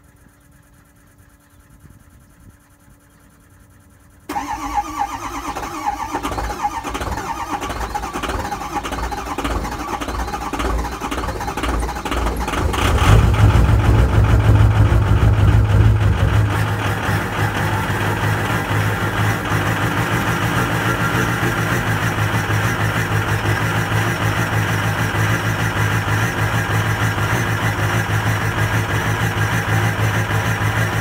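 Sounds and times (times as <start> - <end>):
diesel engine clattering and revving: 4.3 - 31.0.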